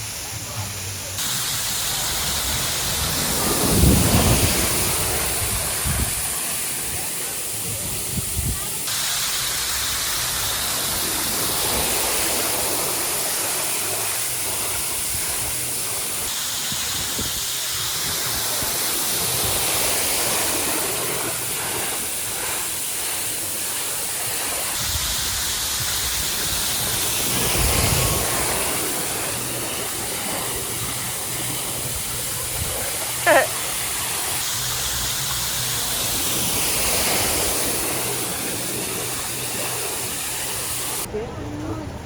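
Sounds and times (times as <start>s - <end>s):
rushing splashing water: 1.2s - 41.1s.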